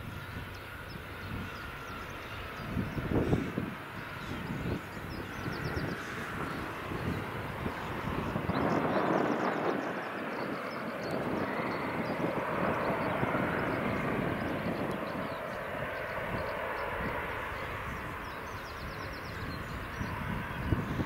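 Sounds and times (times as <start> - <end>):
airliner engine rush: 0.0 - 21.0.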